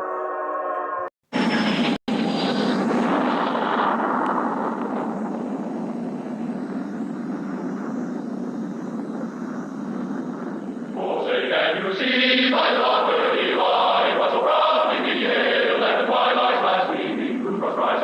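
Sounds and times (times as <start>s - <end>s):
loud rushing noise: 1.3s - 8.1s, 9.3s - 18.0s.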